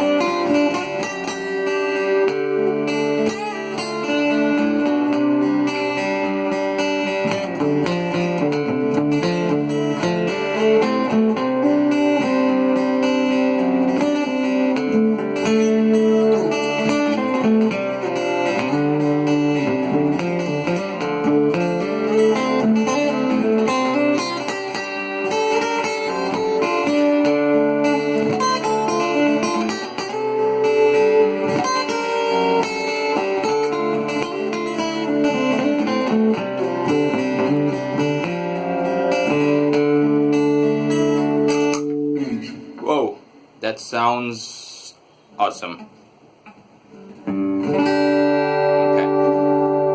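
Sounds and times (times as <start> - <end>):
acoustic guitar chords and picking: 0.0 - 49.9.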